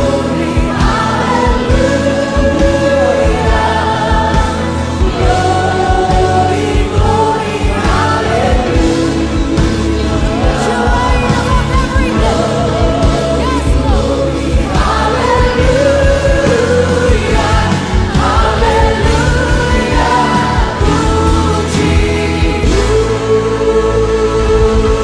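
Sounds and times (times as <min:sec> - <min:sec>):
band with steady beat: 0:00.0 - 0:23.8
people singing worship song: 0:00.0 - 0:25.0.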